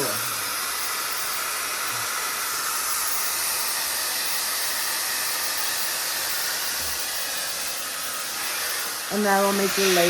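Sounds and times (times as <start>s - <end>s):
hair dryer blowing air: 0.0s - 10.0s.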